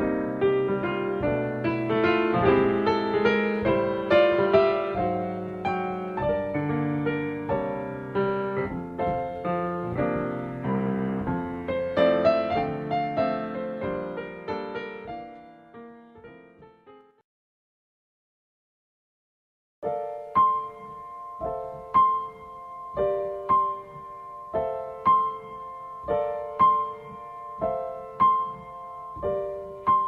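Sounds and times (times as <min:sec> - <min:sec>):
piano music: 0:00.0 - 0:17.2, 0:19.8 - 0:30.0.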